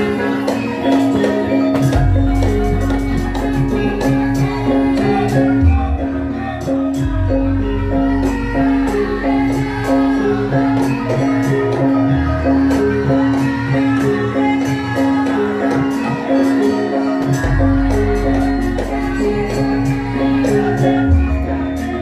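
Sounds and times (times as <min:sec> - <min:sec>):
gamelan music: 0:00.0 - 0:22.0.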